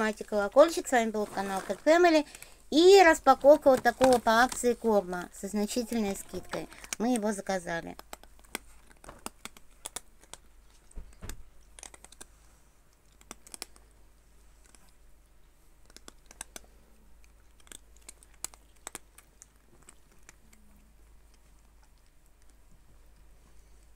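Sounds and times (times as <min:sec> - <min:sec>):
cats crunching dry kibble: 0:00.0 - 0:23.9.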